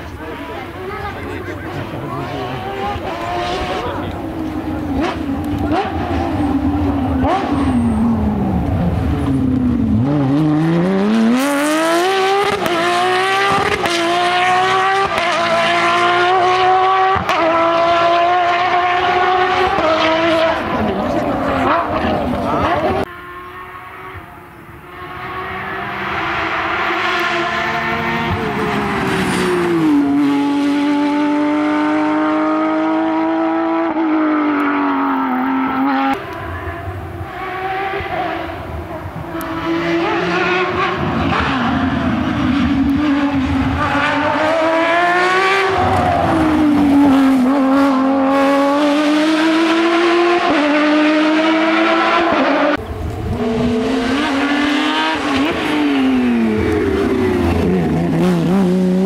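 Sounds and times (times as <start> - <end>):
rally car engine revving through gears: 0.0 - 59.0.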